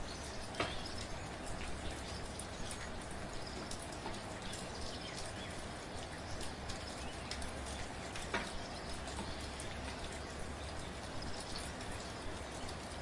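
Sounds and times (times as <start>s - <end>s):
raindrops ticking: 0.0s - 13.0s
steady soft rain: 0.0s - 13.0s.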